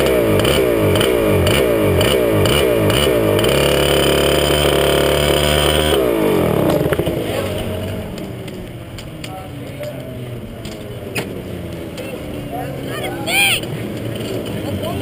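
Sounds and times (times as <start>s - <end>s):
kart engine surging: 0.0s - 15.0s.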